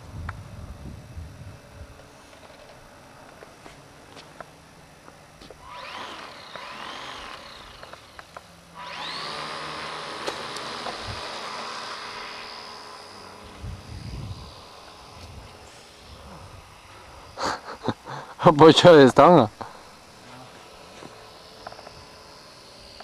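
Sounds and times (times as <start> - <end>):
model plane motor whining: 1.6 - 3.6, 4.9 - 23.0.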